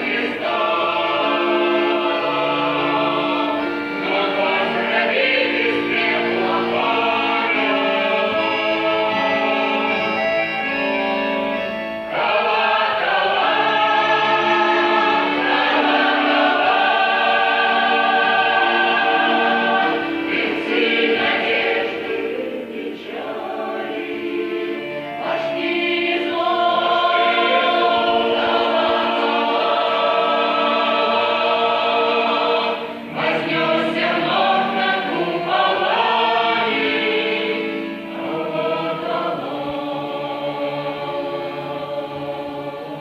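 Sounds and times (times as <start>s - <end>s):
choir singing: 0.0s - 43.0s.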